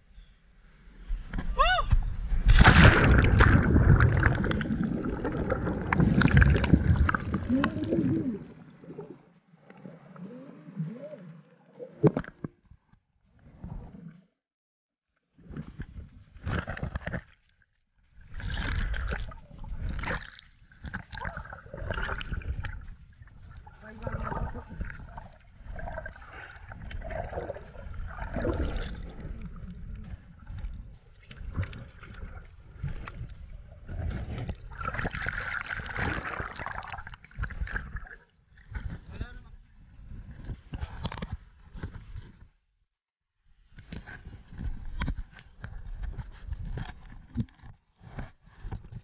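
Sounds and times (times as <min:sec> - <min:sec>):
muffled underwater water sloshing: 0:00.4 - 0:14.2, 0:15.3 - 0:42.6.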